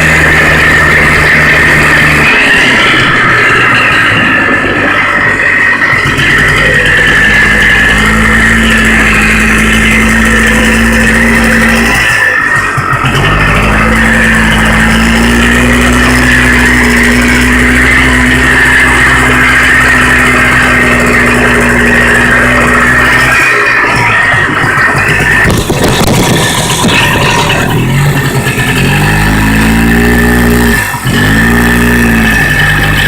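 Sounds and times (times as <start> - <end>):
two-stroke engine running: 0.0 - 33.0.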